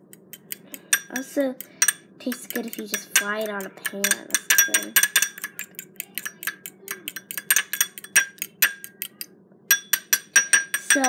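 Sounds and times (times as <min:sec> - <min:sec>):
fork clinking on glass bowl: 0:00.4 - 0:11.0.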